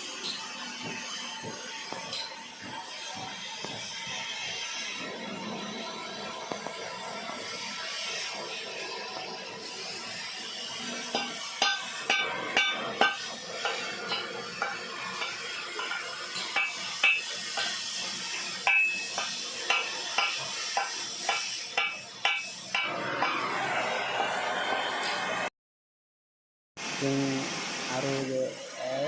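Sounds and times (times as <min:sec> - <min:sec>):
steady hiss: 0:00.0 - 0:23.0, 0:26.8 - 0:29.0.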